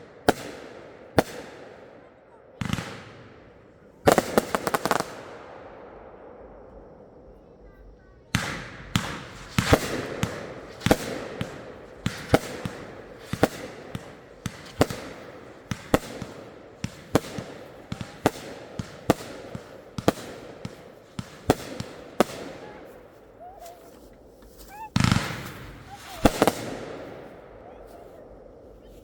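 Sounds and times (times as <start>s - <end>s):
fireworks crackle and hiss: 2.6s - 5.4s, 7.3s - 29.0s
fireworks banging: 2.6s - 29.0s.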